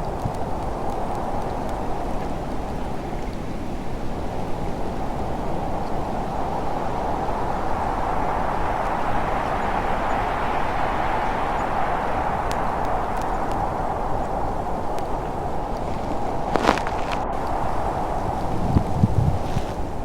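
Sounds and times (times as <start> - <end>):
strong blizzard wind: 0.0 - 20.0.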